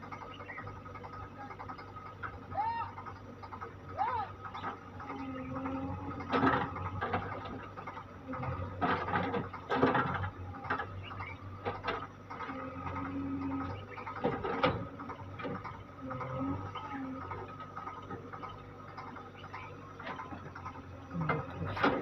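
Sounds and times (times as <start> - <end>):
diesel engines running: 0.0 - 22.0.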